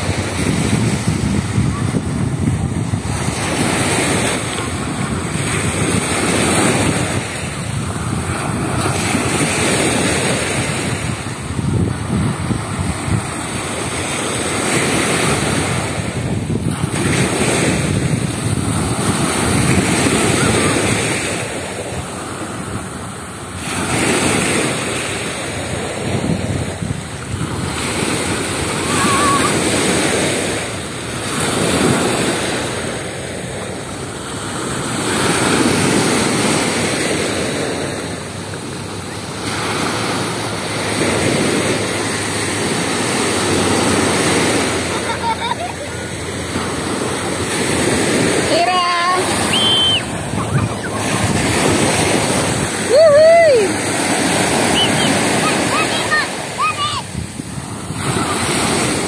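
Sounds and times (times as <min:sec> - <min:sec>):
wind buffeting microphone: 0:00.0 - 0:55.8, 0:56.8 - 0:59.0
surf washing onto beach: 0:00.0 - 0:59.0.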